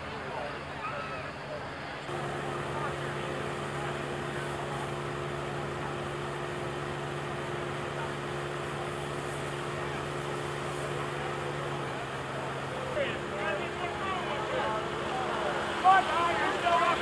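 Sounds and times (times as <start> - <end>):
crowd hubbub: 0.0 - 17.0
vehicle engine idling: 2.1 - 17.0.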